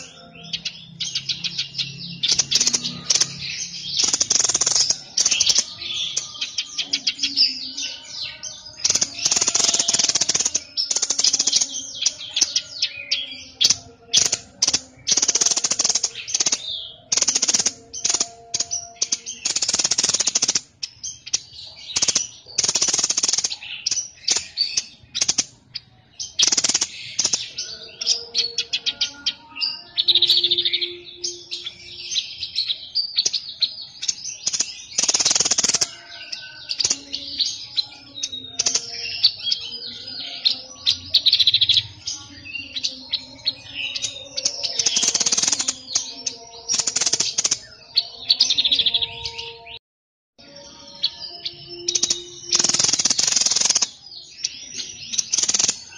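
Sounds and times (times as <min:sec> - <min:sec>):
bird chirps: 0:00.0 - 0:49.8, 0:50.4 - 0:55.9.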